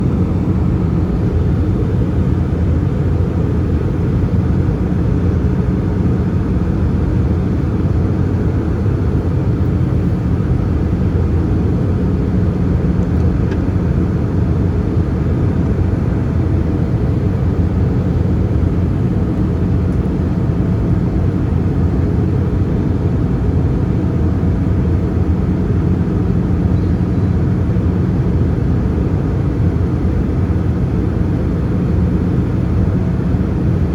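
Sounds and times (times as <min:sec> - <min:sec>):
airplane cabin drone: 0:00.0 - 0:33.9.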